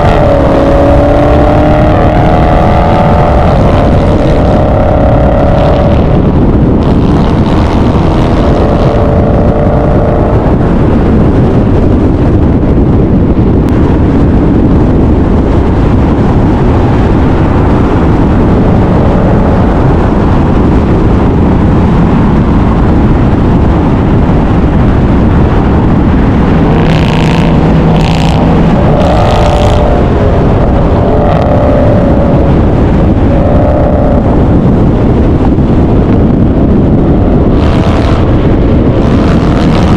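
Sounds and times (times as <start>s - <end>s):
car engine: 0.0s - 39.9s
road noise: 0.0s - 39.9s.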